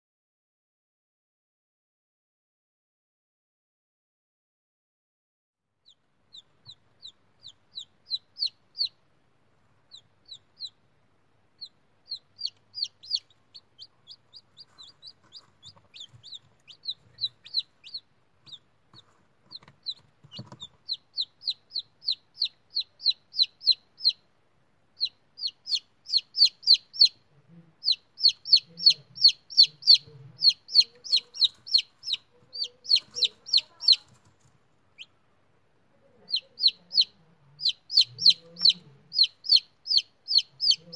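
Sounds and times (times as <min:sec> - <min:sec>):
chick peeping: 0:05.8 - 0:24.3, 0:24.9 - 0:35.3, 0:35.9 - 0:40.9.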